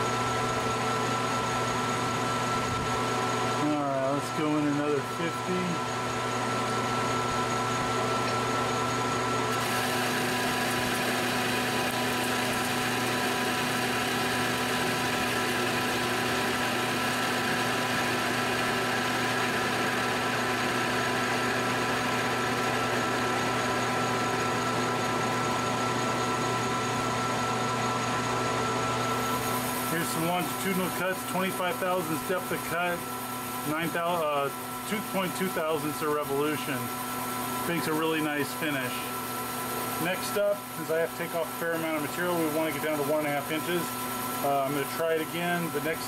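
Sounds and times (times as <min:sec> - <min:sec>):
lathe motor and gear hum: 0:00.0 - 0:46.0.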